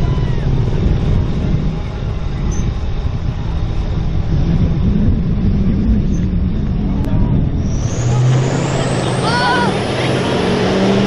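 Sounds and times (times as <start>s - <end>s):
heavy engine running: 0.0s - 11.0s
high whine rising in pitch: 0.0s - 11.0s.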